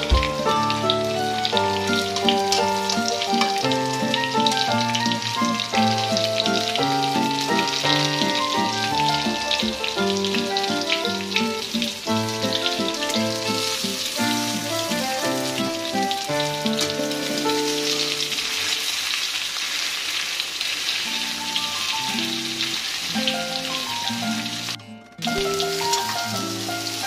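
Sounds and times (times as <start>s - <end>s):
background music: 0.0s - 18.4s, 23.2s - 27.0s
meat sizzling in oil: 0.0s - 27.0s.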